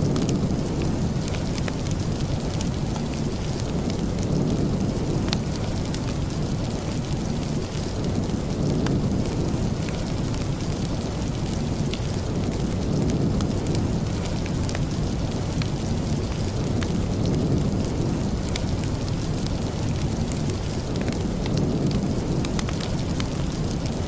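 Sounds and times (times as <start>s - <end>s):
steady rain: 0.0s - 24.0s
wood fire crackling: 0.0s - 24.0s.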